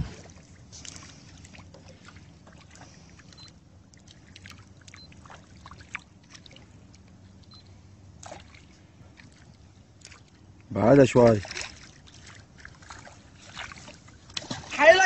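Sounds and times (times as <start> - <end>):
steady low hum: 0.0 - 15.0
water trickling and lapping: 0.0 - 15.0.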